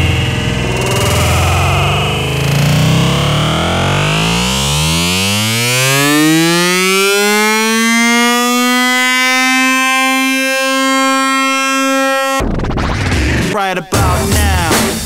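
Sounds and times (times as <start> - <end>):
buzzy synthesizer note: 0.0 - 15.0.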